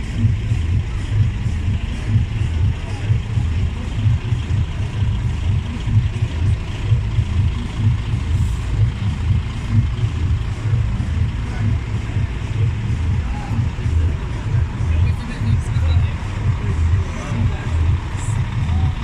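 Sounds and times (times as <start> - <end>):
truck diesel engine rumbling: 0.0 - 19.0.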